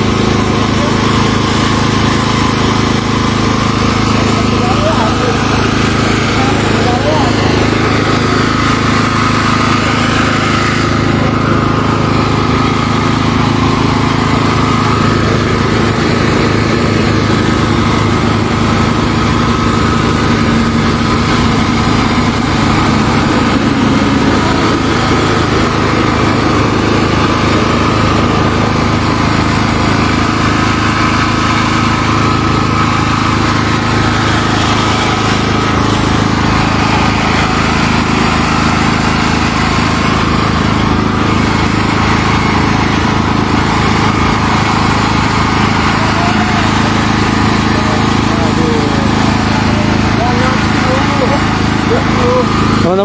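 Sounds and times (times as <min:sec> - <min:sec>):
small engine humming: 0:00.0 - 0:53.0
thin steady whine: 0:00.0 - 0:53.0.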